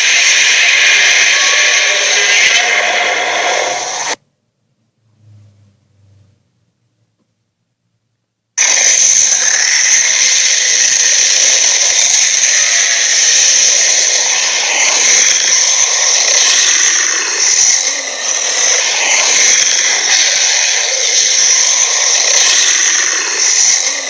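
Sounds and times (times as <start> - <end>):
loud high-pitched dragon screech: 0.0 - 4.2, 8.6 - 24.0.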